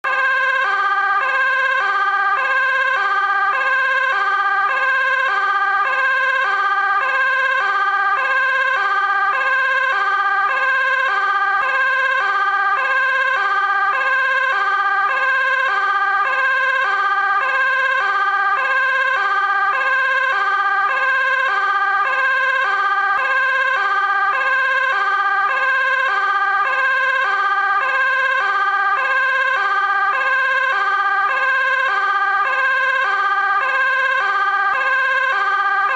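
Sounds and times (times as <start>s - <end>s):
fire engine two-tone siren: 0.0s - 35.9s.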